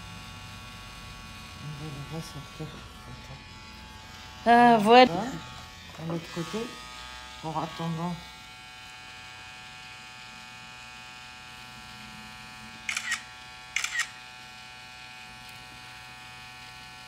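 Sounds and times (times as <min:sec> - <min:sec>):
tattoo pen buzzing: 0:00.0 - 0:17.0.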